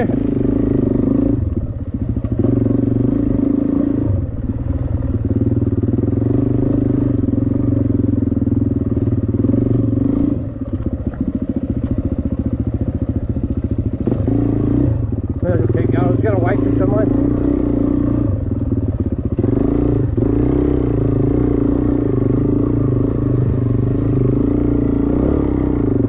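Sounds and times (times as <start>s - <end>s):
dirt bike engine under throttle: 0.0s - 26.0s.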